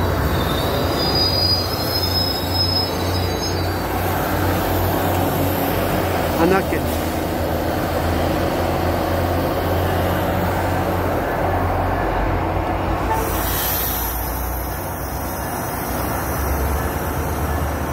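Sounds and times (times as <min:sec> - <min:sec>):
train wheels rumbling on rails: 0:00.0 - 0:17.9.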